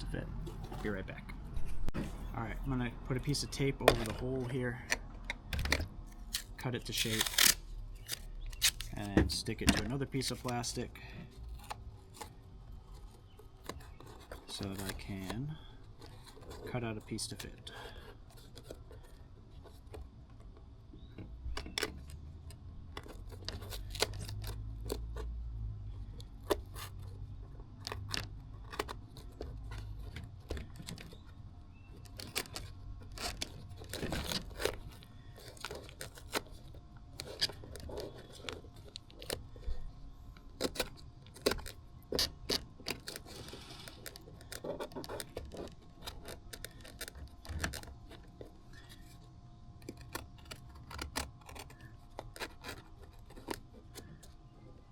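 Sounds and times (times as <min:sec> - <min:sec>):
tape and plastic handling clicks: 0:03.2 - 0:10.7, 0:13.0 - 0:25.3, 0:26.1 - 0:49.0, 0:49.8 - 0:54.4.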